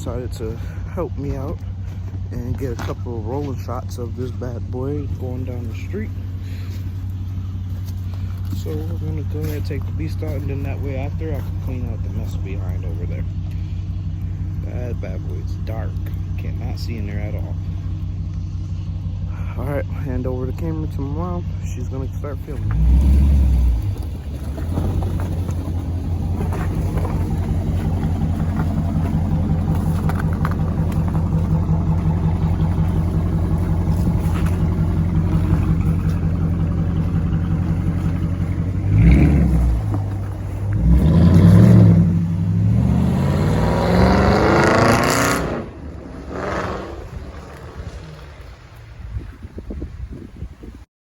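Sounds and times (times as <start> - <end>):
car accelerating away: 0.0 - 49.4
car engine idling and revving: 0.0 - 50.8.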